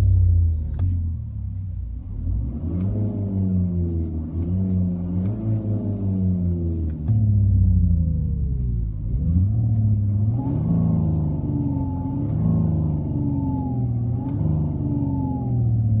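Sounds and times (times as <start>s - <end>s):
simulated engine sound through speakers: 0.0s - 16.0s.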